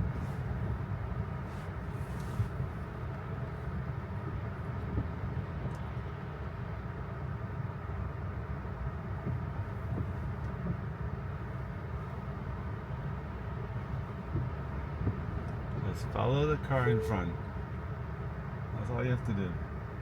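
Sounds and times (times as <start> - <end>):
road and tyre rumble in car cabin: 0.0 - 20.0.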